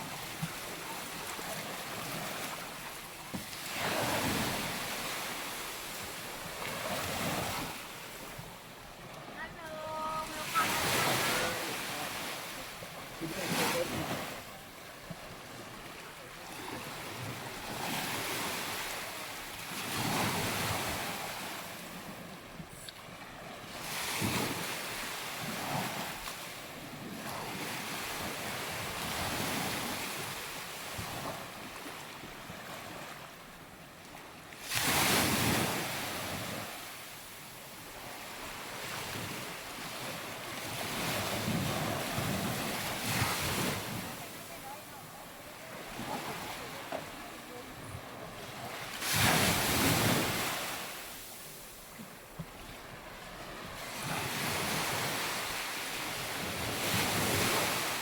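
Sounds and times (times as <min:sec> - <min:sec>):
surf washing onto beach: 0:00.0 - 0:33.3, 0:34.6 - 0:58.0.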